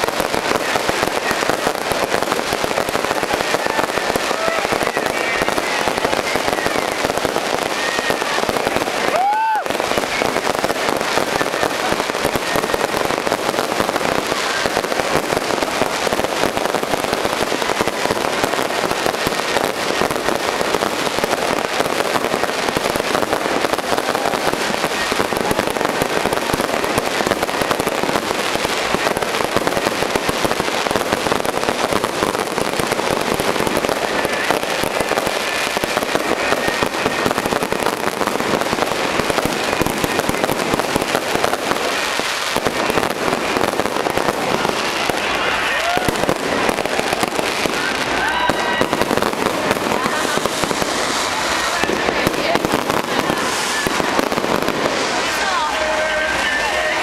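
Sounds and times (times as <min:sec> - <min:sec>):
fireworks crackling: 0:00.0 - 0:57.0.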